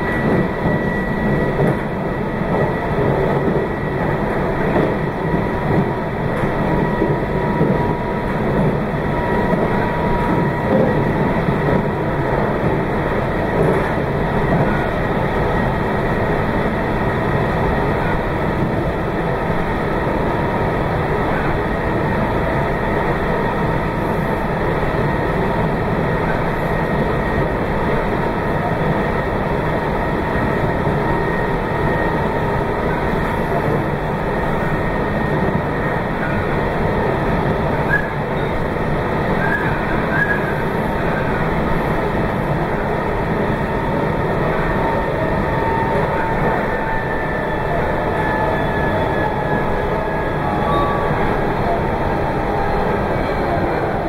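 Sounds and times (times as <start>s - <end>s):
faint train whine: 0.0s - 54.0s
train wheels rumbling: 0.0s - 54.0s.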